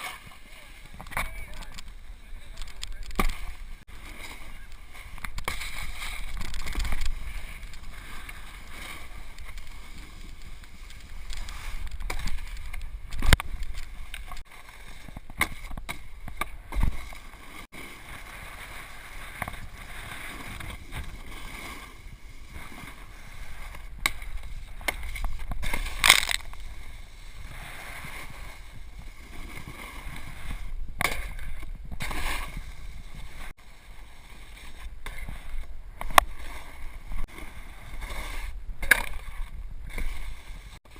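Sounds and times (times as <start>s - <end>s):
snowboard scraping on snow: 3.3s - 40.9s.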